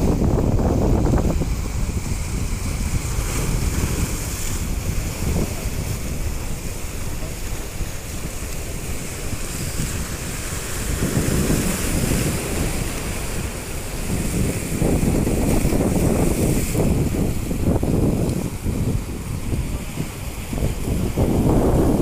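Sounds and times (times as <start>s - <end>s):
waves breaking against rocks: 0.0s - 22.0s
wind rumbling on microphone: 0.0s - 22.0s.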